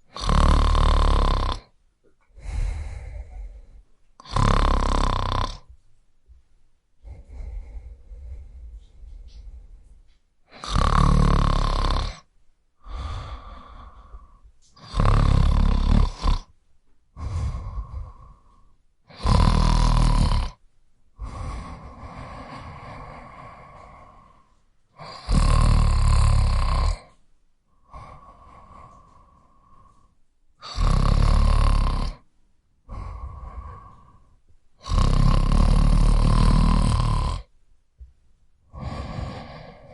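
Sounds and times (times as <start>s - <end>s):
person snoring: 0.0s - 1.7s, 2.4s - 5.7s, 7.0s - 9.9s, 10.5s - 16.5s, 17.2s - 20.6s, 21.2s - 37.5s, 38.7s - 39.9s
quiet breaths: 0.0s - 39.9s.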